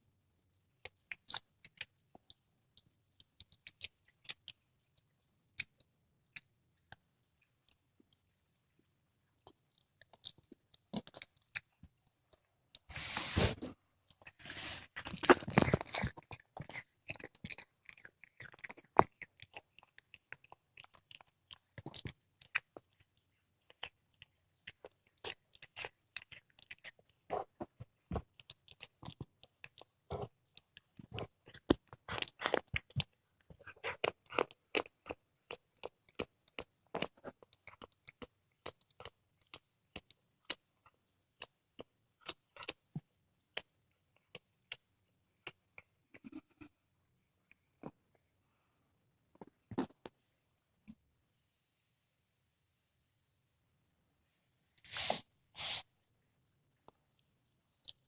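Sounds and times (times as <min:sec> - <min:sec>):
cat chewing and crunching bones: 0:00.4 - 0:46.8, 0:56.8 - 0:58.0.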